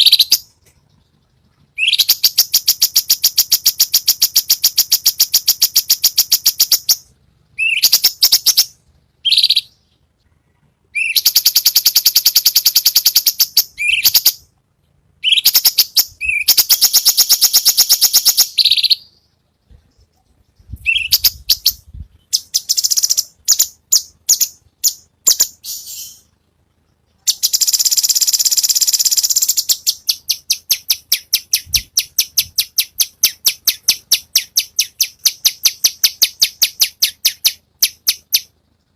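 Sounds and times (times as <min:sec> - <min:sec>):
songbird rapid high-pitched trills: 0:00.0 - 0:10.0, 0:11.0 - 0:14.5, 0:15.2 - 0:26.3, 0:27.1 - 0:38.5.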